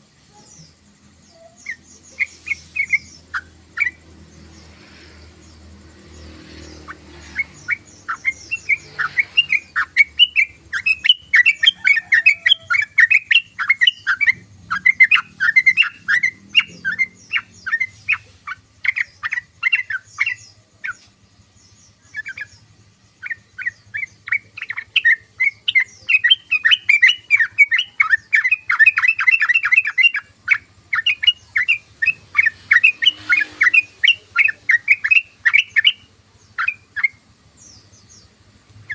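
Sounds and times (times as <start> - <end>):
bird chattering: 0.5 - 38.9.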